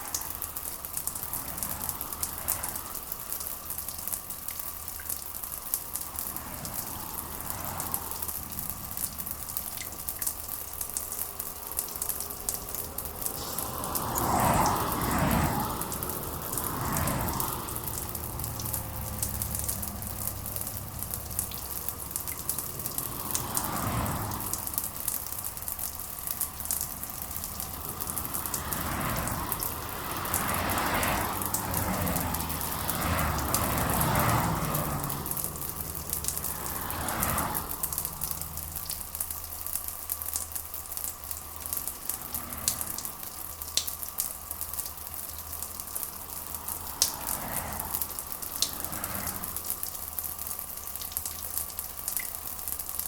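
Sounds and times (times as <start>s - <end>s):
rain drops crackling: 0.0s - 53.0s.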